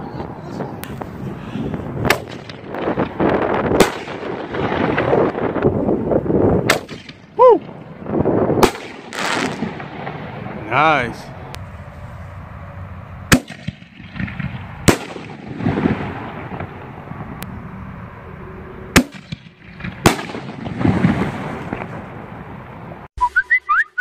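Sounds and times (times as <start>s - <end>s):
wind noise: 0.0s - 23.1s
echoing rumble: 0.3s - 11.6s, 12.4s - 23.1s.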